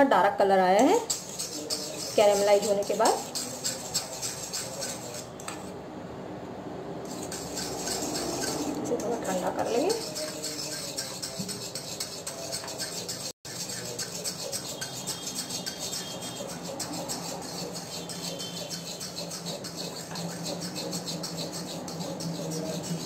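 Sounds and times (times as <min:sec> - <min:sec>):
spoon scraping metal pan: 0:00.8 - 0:05.8, 0:07.0 - 0:23.0.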